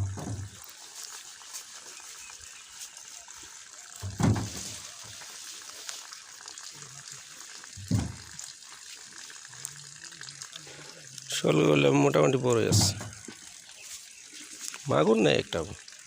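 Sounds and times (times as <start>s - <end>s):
water sloshing and splashing: 0.0s - 9.6s, 10.4s - 16.0s.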